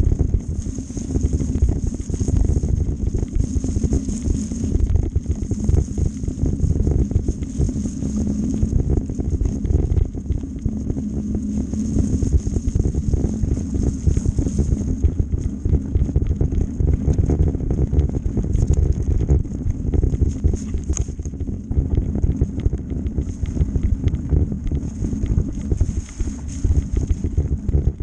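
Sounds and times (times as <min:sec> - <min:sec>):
bike rattling over bumps: 0:00.0 - 0:28.0
bike tyres rumbling on gravel: 0:00.0 - 0:28.0
wind buffeting microphone: 0:00.0 - 0:28.0.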